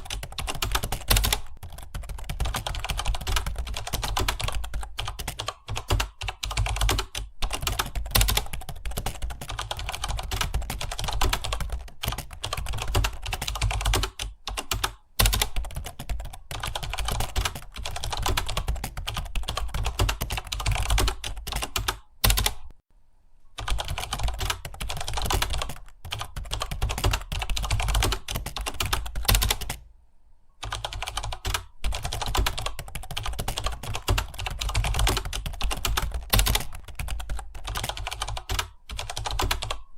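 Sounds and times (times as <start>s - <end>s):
fast keyboard typing: 0.0s - 22.7s, 23.6s - 29.8s, 30.6s - 39.9s.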